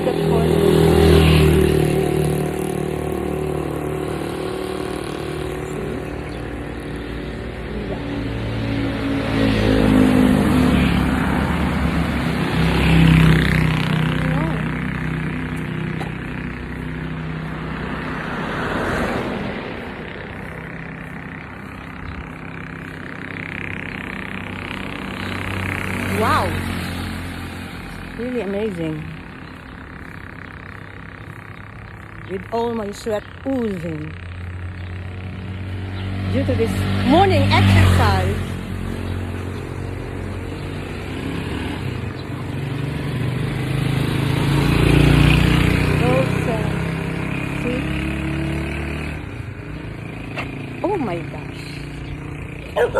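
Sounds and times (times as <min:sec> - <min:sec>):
vehicle passing by: 0:00.0 - 0:52.9.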